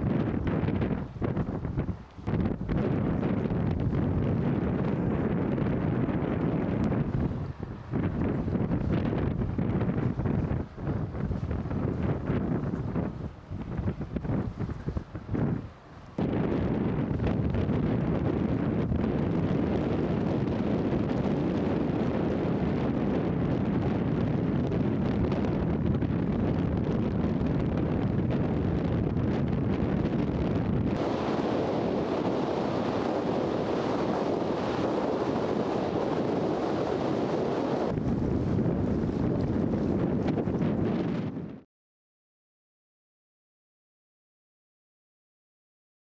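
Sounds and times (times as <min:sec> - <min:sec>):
wind buffeting microphone: 0:00.0 - 0:41.6.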